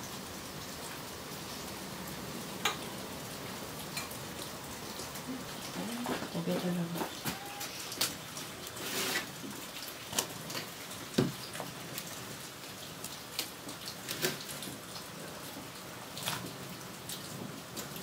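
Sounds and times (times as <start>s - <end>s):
broth boiling and bubbling: 0.0s - 18.0s.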